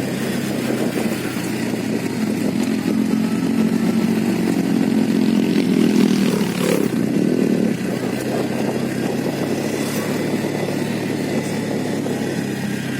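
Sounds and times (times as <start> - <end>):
vehicle engine running: 0.0 - 12.9.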